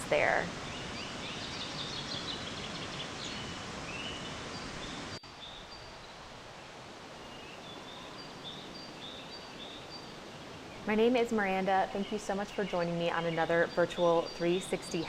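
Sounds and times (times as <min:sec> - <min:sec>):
small birds chirping: 0:00.0 - 0:06.2, 0:07.2 - 0:15.0.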